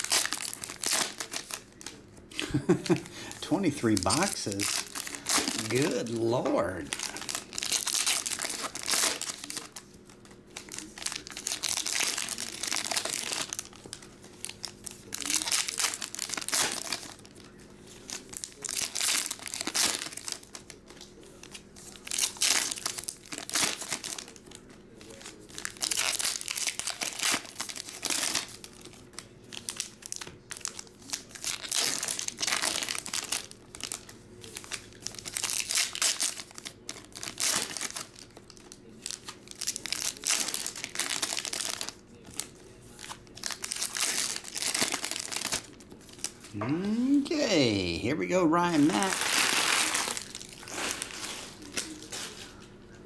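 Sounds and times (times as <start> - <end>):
foil wrappers tearing and crinkling: 0.0 - 46.5, 48.6 - 52.7.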